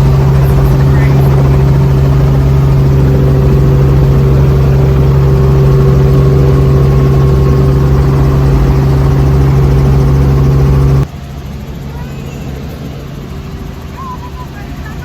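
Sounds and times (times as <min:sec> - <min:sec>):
helicopter droning: 0:00.0 - 0:15.0.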